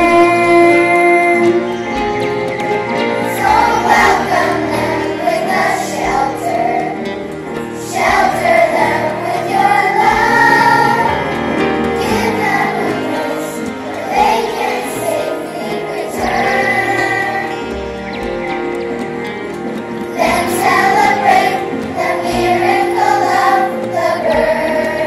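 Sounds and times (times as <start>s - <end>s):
children's choir singing: 0.0s - 25.0s
instrumental accompaniment: 0.0s - 25.0s.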